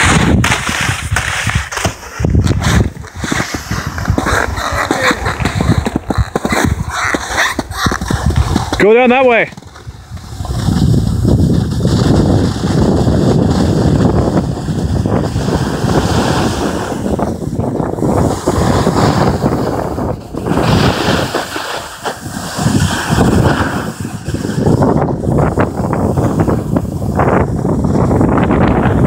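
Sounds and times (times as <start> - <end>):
snowboard scraping over snow: 0.0 - 29.0
wind rushing over microphone: 0.0 - 29.0.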